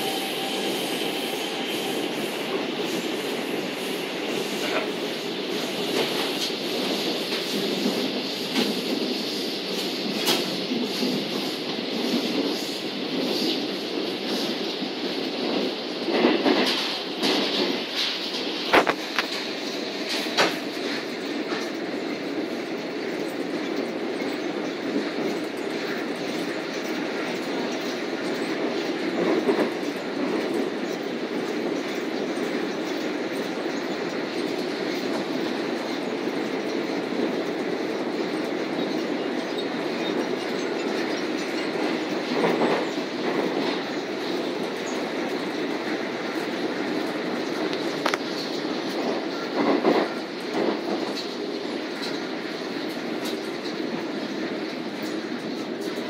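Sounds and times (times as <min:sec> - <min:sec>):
train clattering: 0:00.0 - 0:56.0
train wheels rumbling on rails: 0:00.0 - 0:56.0.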